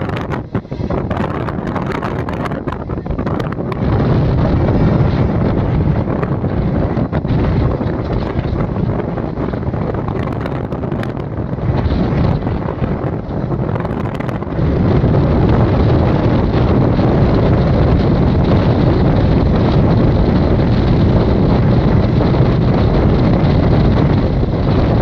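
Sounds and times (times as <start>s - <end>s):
train rumbling on track: 0.0s - 25.0s
wind rushing over microphone: 0.0s - 25.0s.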